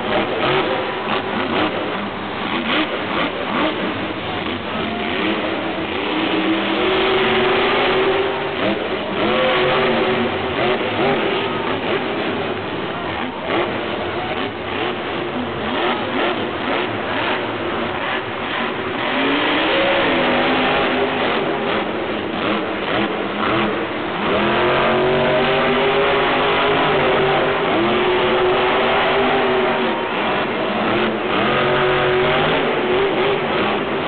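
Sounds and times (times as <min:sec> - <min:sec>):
monster truck engine revving: 0:00.0 - 0:34.0.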